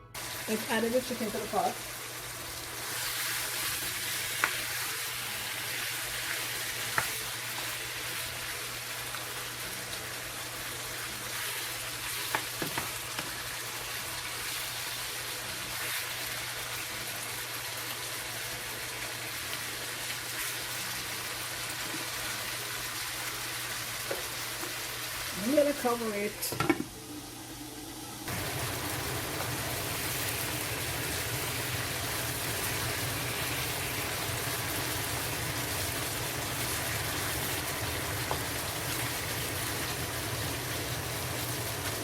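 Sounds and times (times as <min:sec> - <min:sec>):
chicken sizzling in hot oil: 0:00.2 - 0:26.3, 0:26.9 - 0:42.0.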